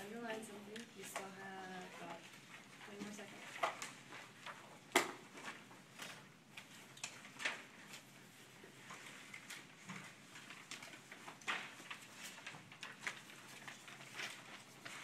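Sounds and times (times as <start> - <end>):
paper pages rustling: 0.0 - 15.0.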